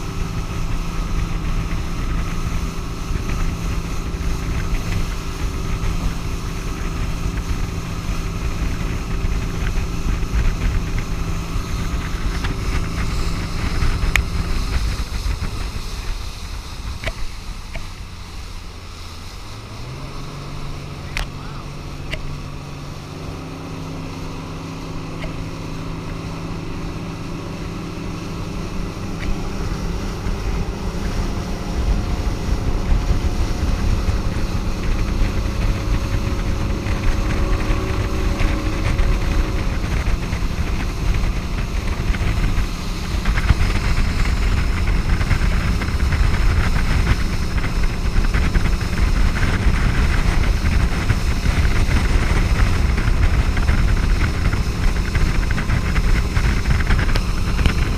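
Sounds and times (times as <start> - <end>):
motorboat engine drone: 0.0 - 57.9
water rushing along hull: 0.0 - 57.9
wind buffeting microphone: 0.0 - 57.9.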